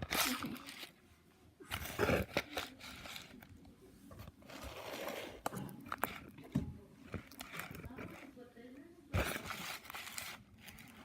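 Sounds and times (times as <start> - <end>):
objects scraping and rustling: 0.0 - 11.0.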